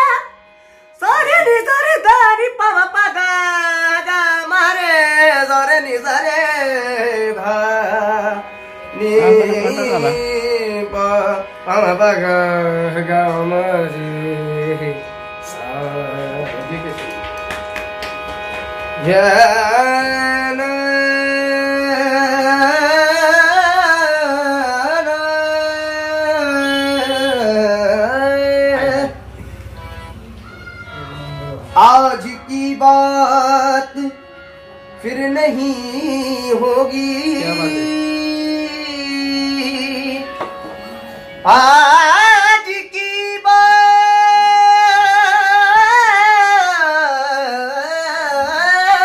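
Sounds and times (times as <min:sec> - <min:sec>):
young man singing: 0:01.0 - 0:16.9, 0:18.9 - 0:29.4, 0:30.9 - 0:40.6, 0:41.4 - 0:49.0.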